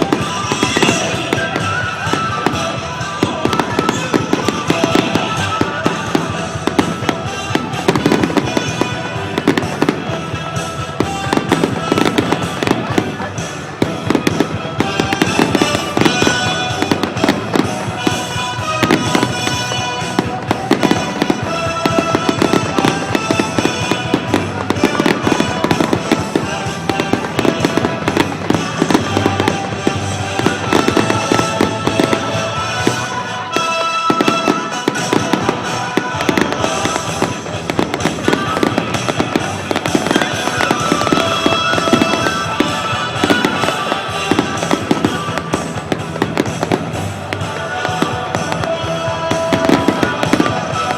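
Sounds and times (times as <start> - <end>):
fireworks bangs and crackling: 0.0 - 50.9
music playing: 0.0 - 50.9.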